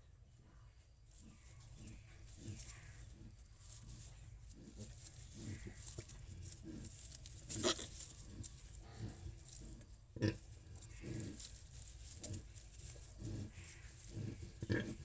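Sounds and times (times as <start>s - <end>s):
pigs grunting: 1.8s - 15.0s.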